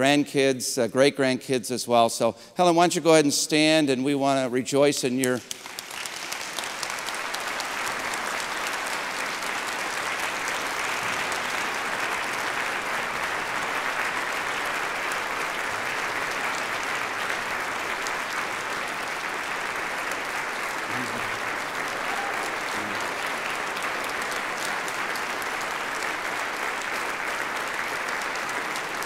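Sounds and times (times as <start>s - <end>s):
crowd applauding: 5.2s - 29.0s.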